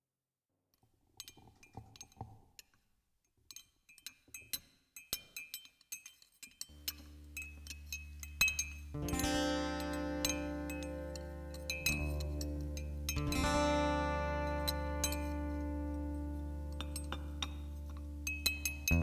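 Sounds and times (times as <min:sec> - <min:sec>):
glass clinking: 0:01.2 - 0:02.8, 0:03.5 - 0:13.5, 0:14.4 - 0:19.0.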